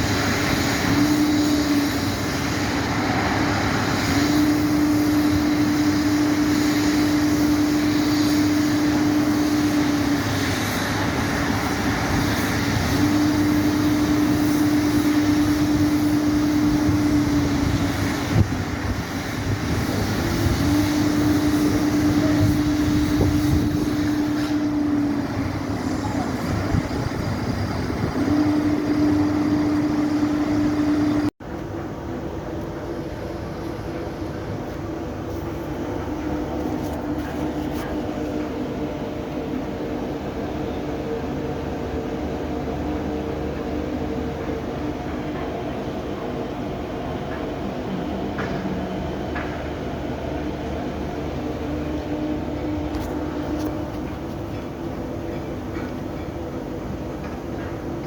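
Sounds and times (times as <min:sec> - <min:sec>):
machinery rumbling: 0:00.0 - 0:58.0.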